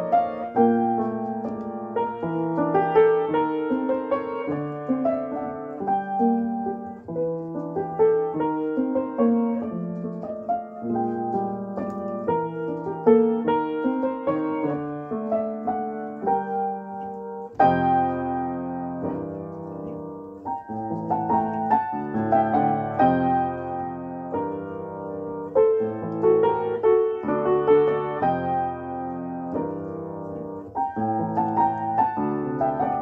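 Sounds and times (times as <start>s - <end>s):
slow solo piano music: 0.0s - 33.0s.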